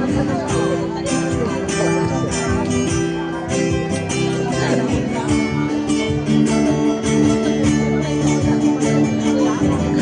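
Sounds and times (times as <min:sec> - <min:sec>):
live band playing: 0:00.0 - 0:10.0
strummed guitar: 0:00.0 - 0:10.0.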